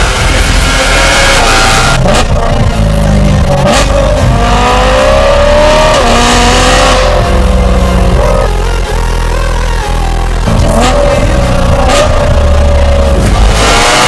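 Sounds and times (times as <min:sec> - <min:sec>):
car exhaust accelerating: 0:00.0 - 0:14.0.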